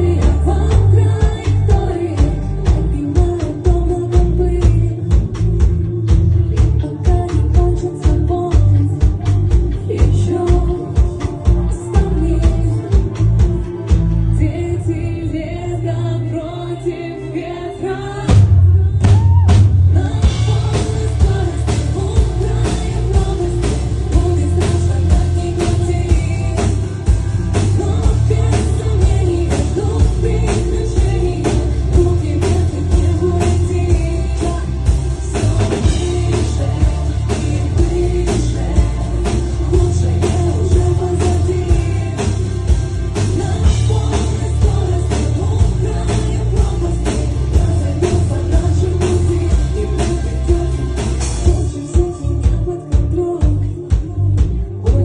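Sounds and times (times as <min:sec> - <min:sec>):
steady drum beat: 0:00.0 - 0:14.3, 0:18.3 - 0:55.0
rock song with singer: 0:00.0 - 0:55.0.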